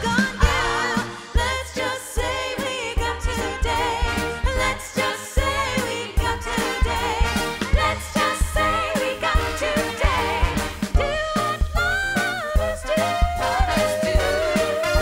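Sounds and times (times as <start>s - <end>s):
voices singing: 0.0s - 11.6s, 12.2s - 15.0s
band with steady beat: 0.0s - 15.0s.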